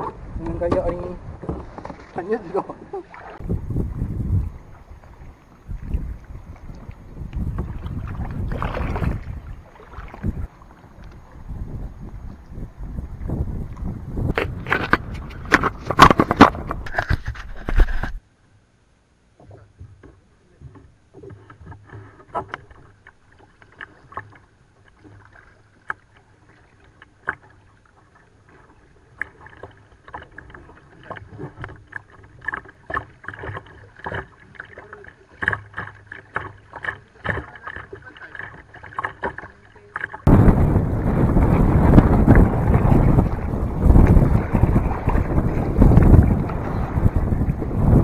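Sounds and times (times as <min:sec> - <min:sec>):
paddle splashing in water: 0:00.0 - 0:18.2, 0:21.1 - 0:48.0.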